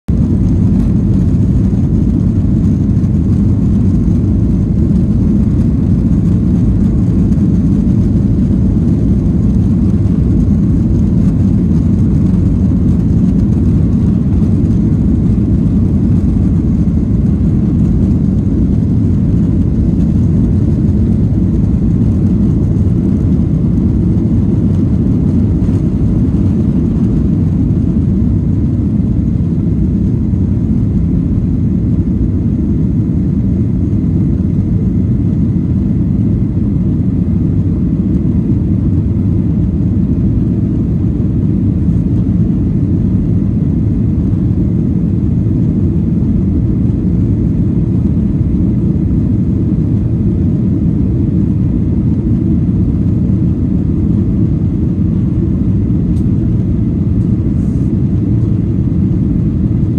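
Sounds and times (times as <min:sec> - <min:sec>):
jet engines rumbling: 0:00.1 - 0:59.9.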